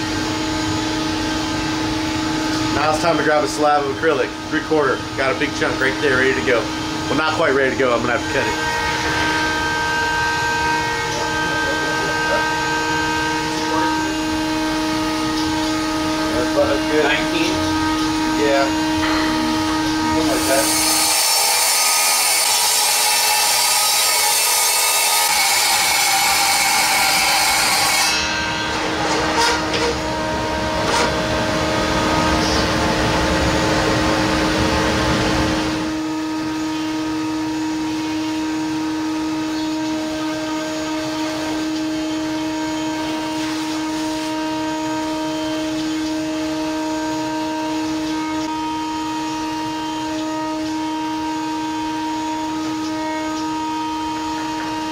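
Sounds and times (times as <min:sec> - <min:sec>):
circular saw cutting: 0:00.0 - 0:54.9
machine hum with tones: 0:00.0 - 0:54.9.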